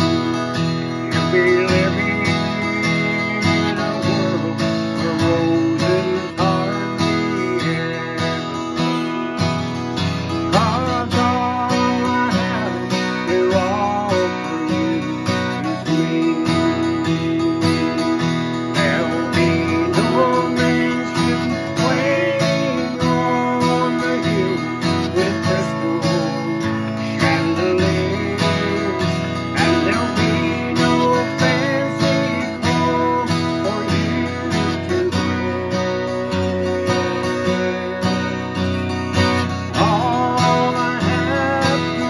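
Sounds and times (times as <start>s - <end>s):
acoustic guitar strumming: 0.0s - 42.0s.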